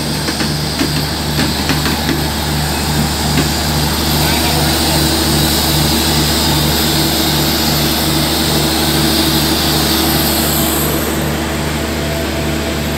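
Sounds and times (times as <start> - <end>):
throbbing diesel train engine: 0.0 - 12.9.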